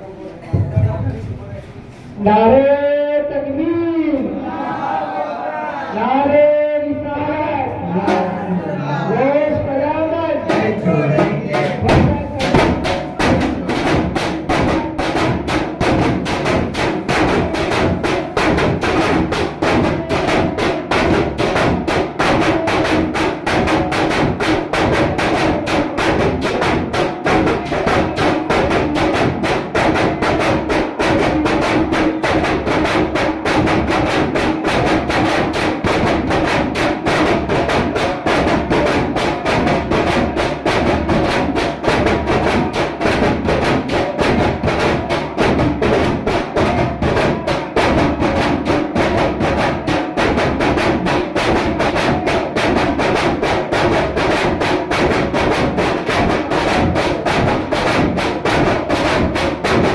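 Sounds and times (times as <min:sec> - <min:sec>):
fast even drumming: 0:09.4 - 0:59.9.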